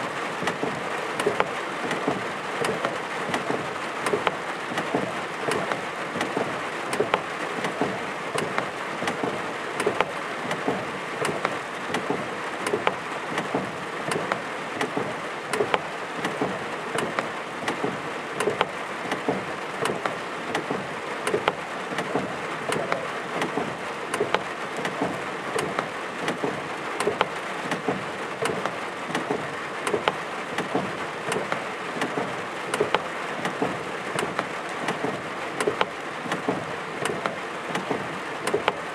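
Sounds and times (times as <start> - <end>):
rain on hard surface: 0.0 - 38.9.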